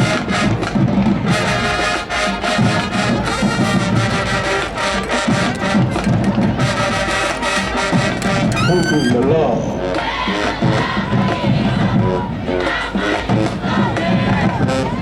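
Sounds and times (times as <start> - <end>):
drumline beat: 0.0 - 15.0
marching band brass: 0.0 - 15.0.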